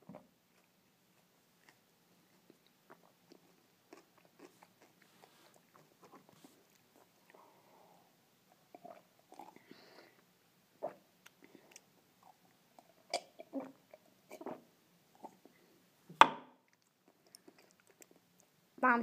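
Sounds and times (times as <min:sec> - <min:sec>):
faint chewing: 0:00.0 - 0:07.8, 0:08.5 - 0:14.6, 0:16.6 - 0:18.6.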